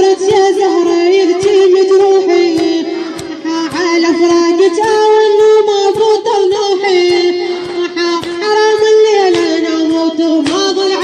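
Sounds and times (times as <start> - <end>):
sharp percussive strokes: 0.0 - 11.0
woman chanting a lament: 0.0 - 11.0.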